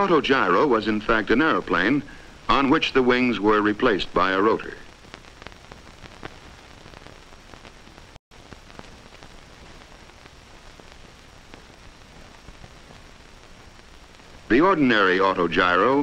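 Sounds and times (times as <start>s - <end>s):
crackles and pops: 0.0s - 16.0s
film soundtrack hiss: 0.0s - 16.0s.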